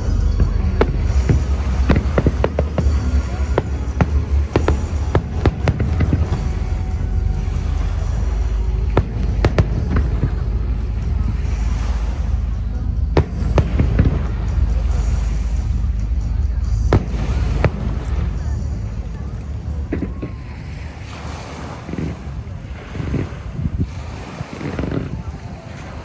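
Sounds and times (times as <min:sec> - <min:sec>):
fireworks bangs and cracks: 0:00.0 - 0:25.4
low rumble: 0:00.0 - 0:25.4.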